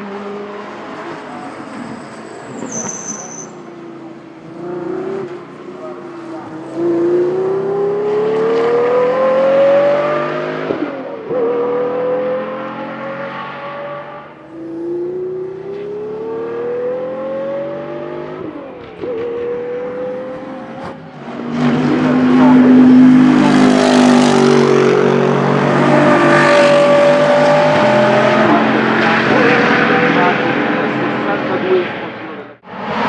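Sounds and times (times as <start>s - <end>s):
race car engine accelerating: 4.0s - 33.0s.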